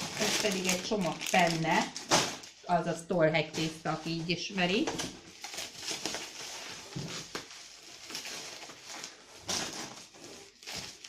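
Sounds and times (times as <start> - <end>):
packaging crinkling: 0.0 - 2.6, 3.6 - 11.0.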